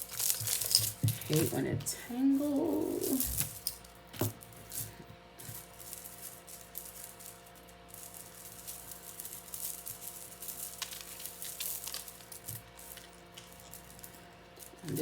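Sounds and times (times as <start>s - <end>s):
metal chain clinking: 0.0s - 15.0s.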